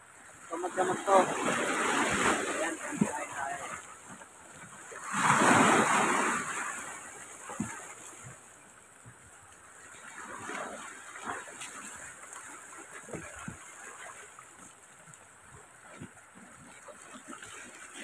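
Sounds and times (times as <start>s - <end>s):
surf washing: 0.0s - 18.0s.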